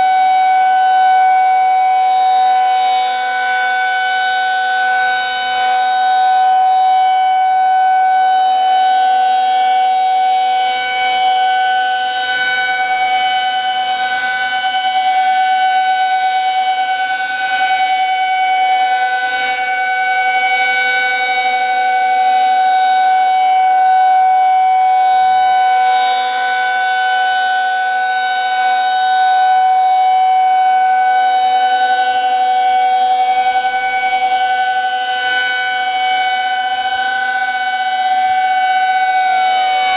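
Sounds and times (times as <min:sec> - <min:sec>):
fainter siren tone gliding up: 0:00.0 - 0:39.9
tornado siren steady tone: 0:00.0 - 0:39.9.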